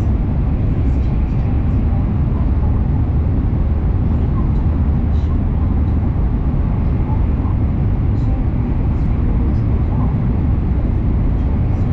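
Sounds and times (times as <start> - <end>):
train interior running rumble: 0.0 - 11.9.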